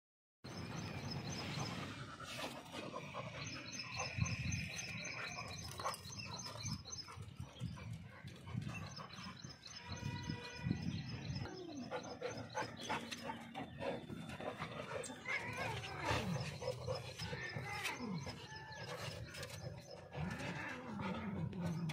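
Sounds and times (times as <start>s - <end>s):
dogs panting: 0.5s - 21.9s.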